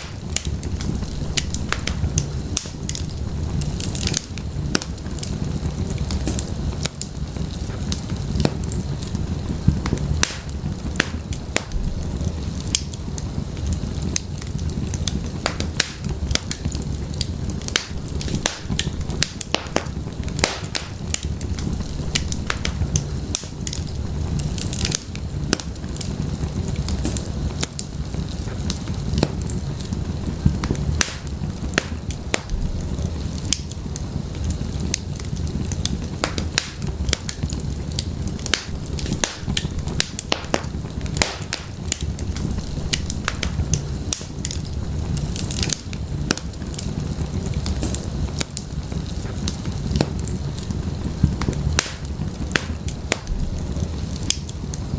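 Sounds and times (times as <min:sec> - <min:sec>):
firewood crackling and popping: 0:00.0 - 0:54.9
low rumble of flames: 0:00.0 - 0:54.9.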